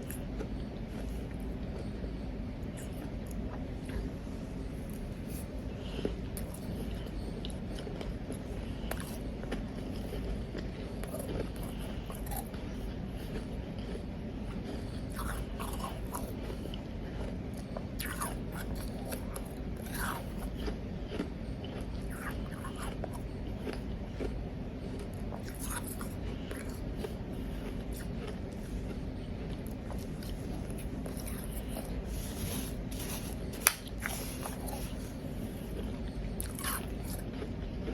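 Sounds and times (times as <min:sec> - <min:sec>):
chewing crunchy ice: 0:00.0 - 0:04.1, 0:04.8 - 0:37.9.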